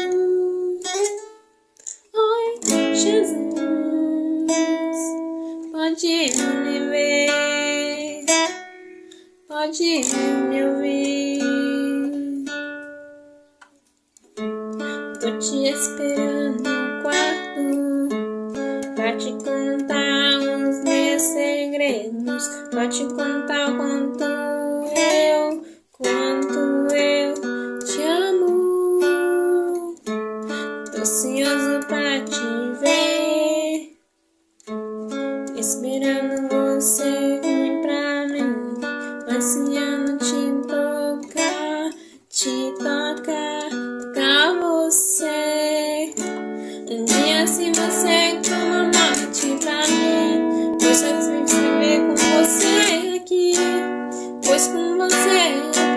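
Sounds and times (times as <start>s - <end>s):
acoustic guitar playing: 0.0s - 55.9s.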